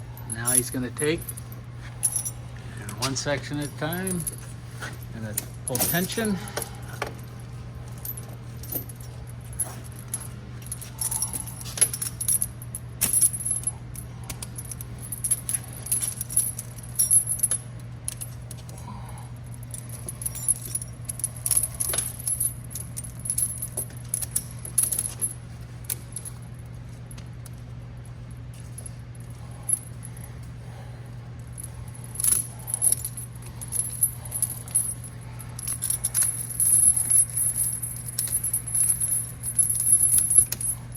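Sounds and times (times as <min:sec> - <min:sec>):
chain links clinking and rattling: 0:00.0 - 0:40.9
steady low hum: 0:00.0 - 0:40.9.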